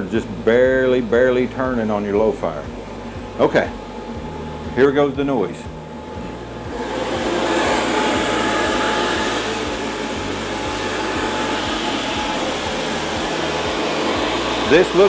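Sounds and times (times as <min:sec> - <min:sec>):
water heater burner rushing: 0:00.0 - 0:15.0.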